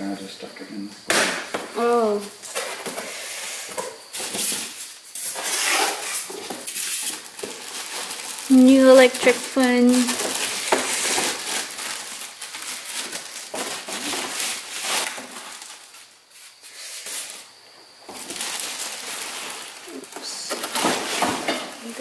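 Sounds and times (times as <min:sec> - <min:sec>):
rustling and crunching handling noise: 0:02.1 - 0:22.0.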